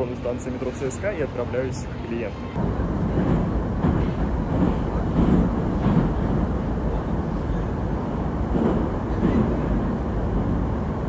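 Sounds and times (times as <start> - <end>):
train carriage rumbling: 0.0 - 11.0.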